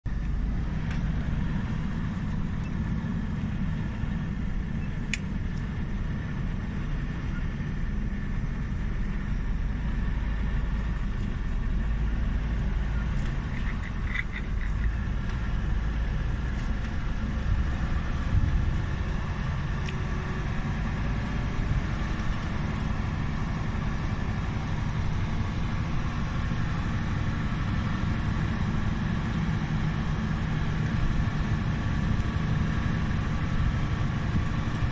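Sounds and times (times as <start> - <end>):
truck diesel engine drone: 0.0 - 34.9.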